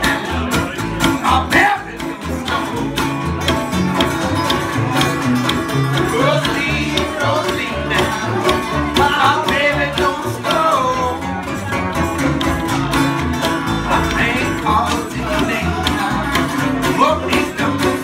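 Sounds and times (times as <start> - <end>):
acoustic guitar: 0.0 - 18.0
banjo: 0.0 - 18.0
upright bass: 0.0 - 18.0.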